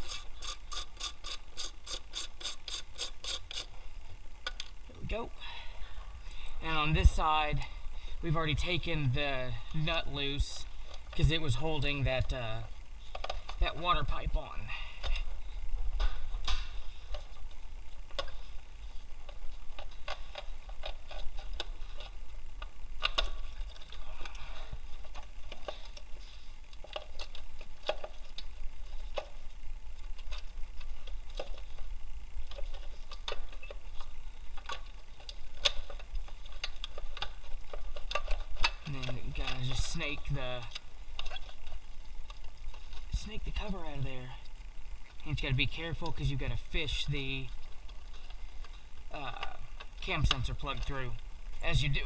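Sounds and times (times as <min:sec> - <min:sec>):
low steady rumble: 0:02.3 - 0:52.0.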